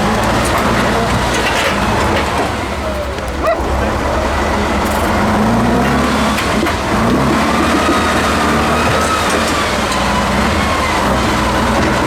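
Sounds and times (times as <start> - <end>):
truck engine under load: 0.0 - 12.0.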